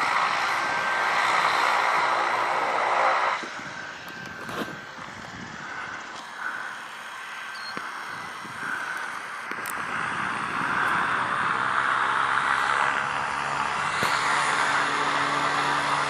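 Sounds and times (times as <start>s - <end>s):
turboprop engine whine: 0.0s - 16.0s.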